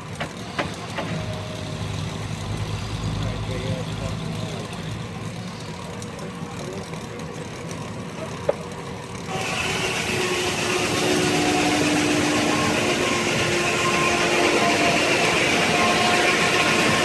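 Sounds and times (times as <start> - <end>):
steam engine low rumble: 0.0 - 17.0.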